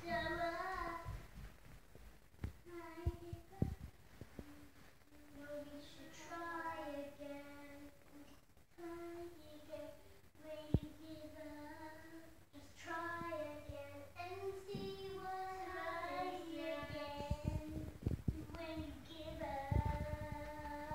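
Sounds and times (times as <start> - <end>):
girl singing: 0.0 - 1.3, 2.6 - 20.9.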